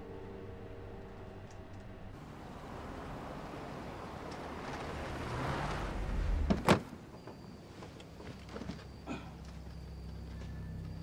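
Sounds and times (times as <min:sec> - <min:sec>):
car driving on dirt road: 0:02.1 - 0:11.0.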